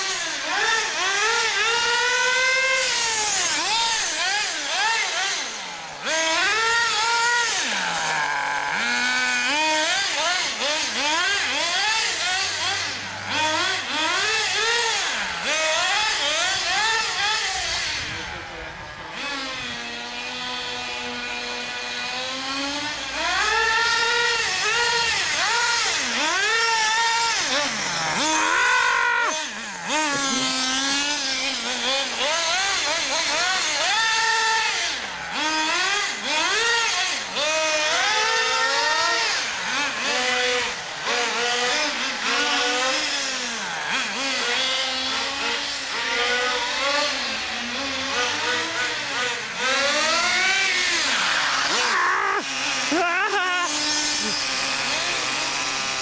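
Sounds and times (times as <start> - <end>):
small engines revving high: 0.0 - 56.0.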